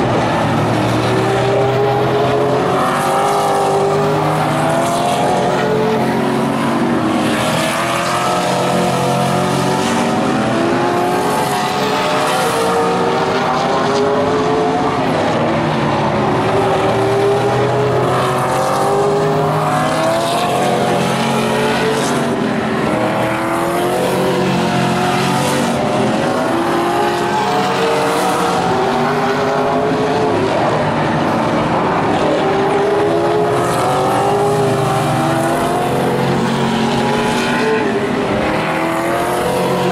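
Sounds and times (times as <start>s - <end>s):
race car engines racing: 0.0s - 39.9s.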